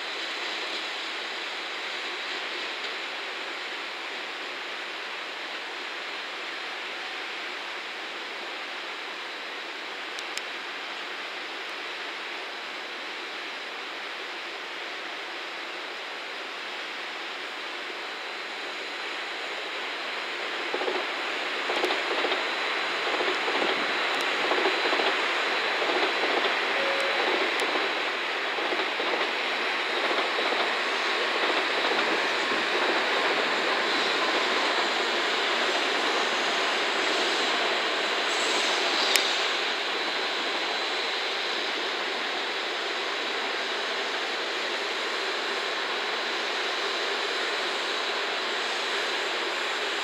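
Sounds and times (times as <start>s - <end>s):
rail yard hiss: 0.0s - 50.0s
train wheels rumbling on track: 0.0s - 50.0s.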